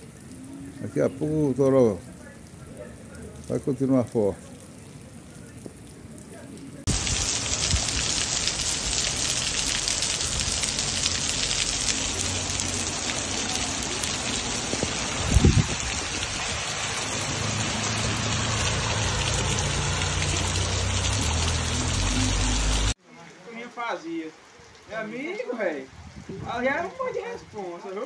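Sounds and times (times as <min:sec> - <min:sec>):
heavy rain on pavement: 0:00.0 - 0:28.0.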